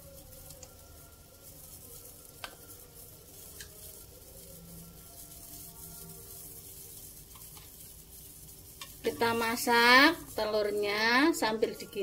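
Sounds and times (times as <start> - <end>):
broth bubbling in a wok: 0.0 - 12.0.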